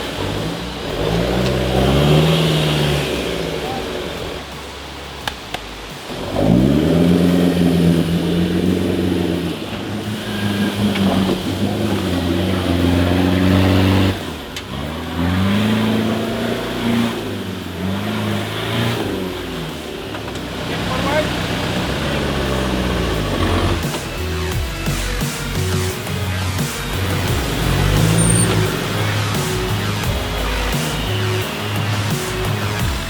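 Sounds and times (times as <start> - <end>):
engine revving hard: 0.0 - 5.1, 6.0 - 33.0.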